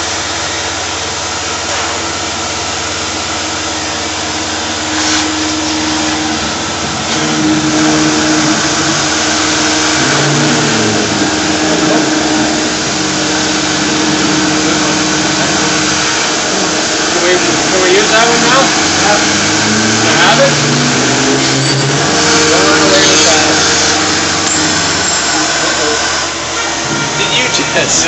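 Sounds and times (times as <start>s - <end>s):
milling machine spindle humming: 0.0s - 28.0s
shop vacuum running: 0.0s - 28.0s.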